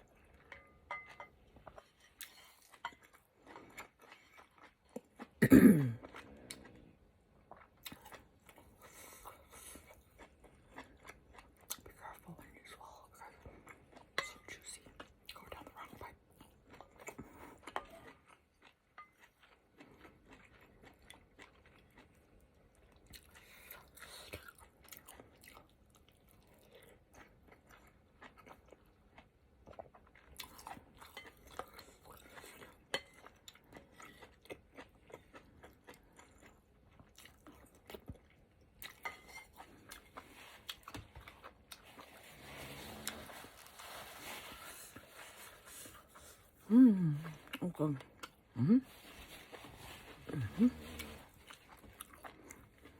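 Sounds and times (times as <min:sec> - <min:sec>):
chewing and wet mouth sounds: 0:00.0 - 0:05.4, 0:06.0 - 0:52.9.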